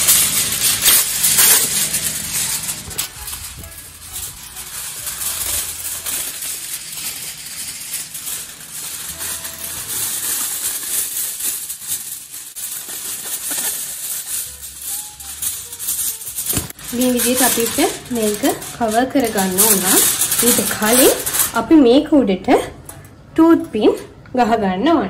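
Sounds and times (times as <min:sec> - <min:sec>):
aluminium foil crinkling: 0:00.0 - 0:22.1.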